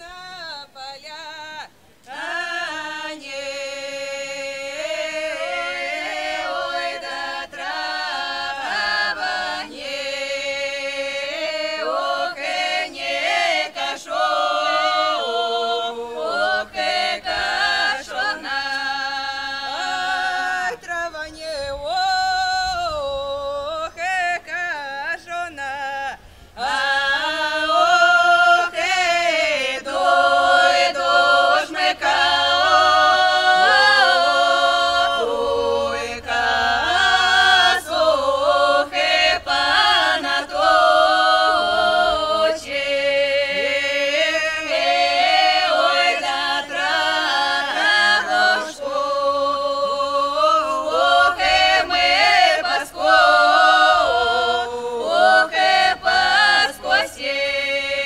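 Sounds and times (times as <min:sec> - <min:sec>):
vocal group singing a cappella: 0:00.0 - 0:58.0.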